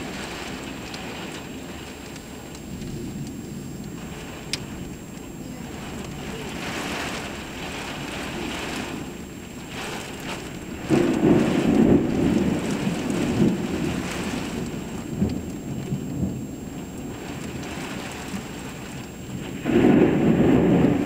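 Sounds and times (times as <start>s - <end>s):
heavy rain falling: 0.0s - 21.0s
thunder rumbling: 0.0s - 21.0s.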